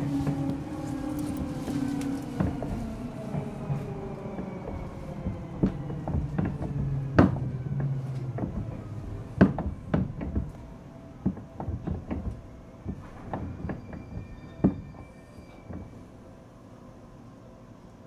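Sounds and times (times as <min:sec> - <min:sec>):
train wheels clacking over rail joints: 0:00.0 - 0:16.3
train running noise: 0:00.0 - 0:18.0.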